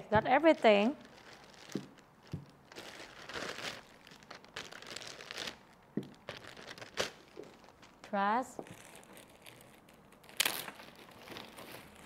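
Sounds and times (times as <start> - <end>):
plastic crinkling and rustling: 0.0 - 12.0.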